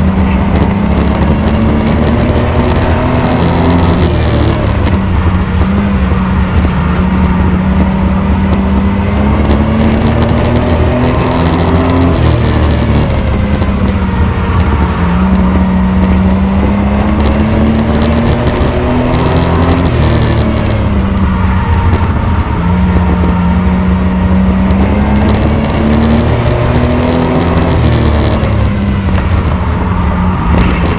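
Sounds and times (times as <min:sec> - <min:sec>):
race truck engine revving: 0:00.0 - 0:30.9.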